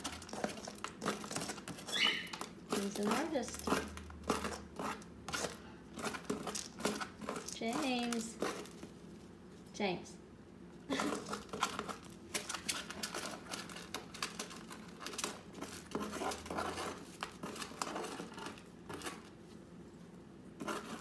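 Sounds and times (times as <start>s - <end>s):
parrot shredding material: 0.0s - 9.6s, 10.8s - 21.0s.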